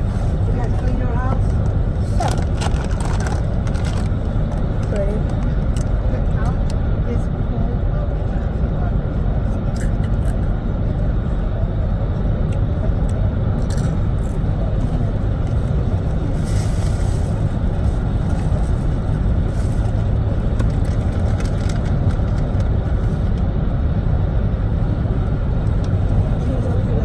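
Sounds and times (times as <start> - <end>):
road noise inside car: 0.0 - 27.0.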